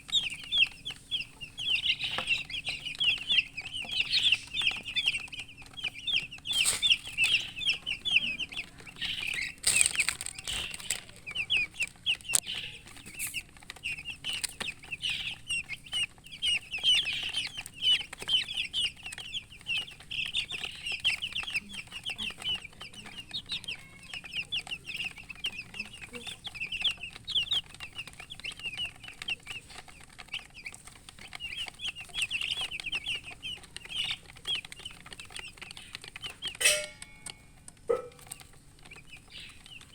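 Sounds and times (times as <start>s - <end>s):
chicks peeping: 0.0s - 39.9s
sharp clicks: 1.6s - 37.8s.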